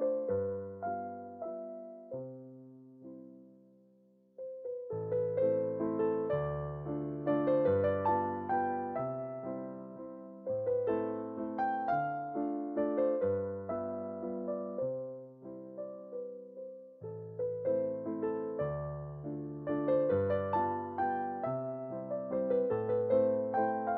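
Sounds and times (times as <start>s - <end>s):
gentle piano music: 0.0s - 23.9s.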